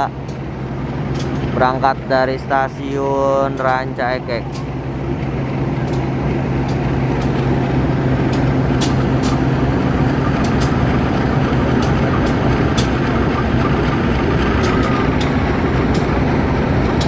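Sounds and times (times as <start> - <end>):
diesel locomotive hum: 0.0 - 17.0
rumble of train coaches: 0.0 - 17.0
wheels clicking: 2.3 - 17.0.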